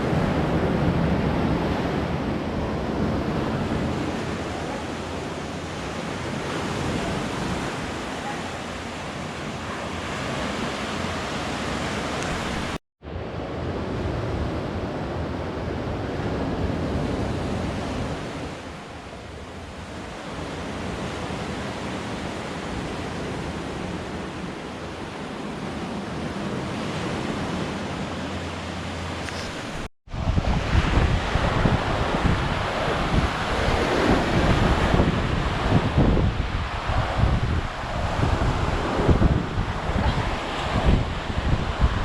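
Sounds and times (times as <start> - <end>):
sea waves washing ashore: 0.0 - 42.0
wind buffeting microphone: 0.0 - 42.0.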